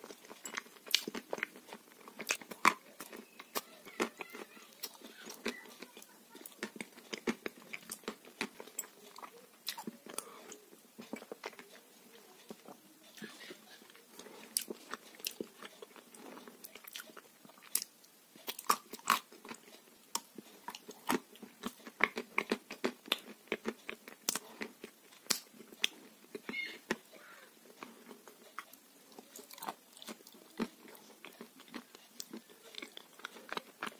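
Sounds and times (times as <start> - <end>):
person chewing crunchy food: 0.0 - 33.9.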